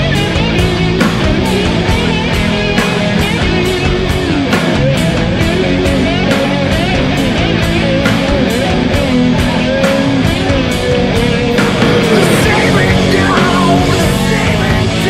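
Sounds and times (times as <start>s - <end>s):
electric guitar: 0.0s - 15.0s
steady drum beat: 0.0s - 15.0s.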